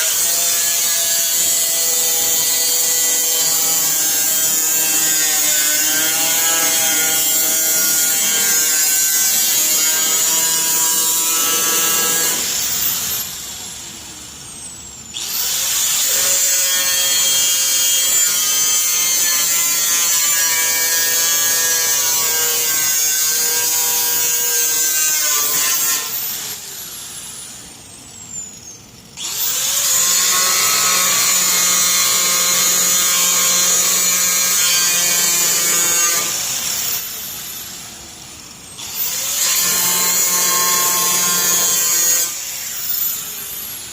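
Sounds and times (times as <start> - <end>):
cut-off wheel cutting sheet steel: 0.0 - 14.4, 15.0 - 27.9, 29.2 - 43.9.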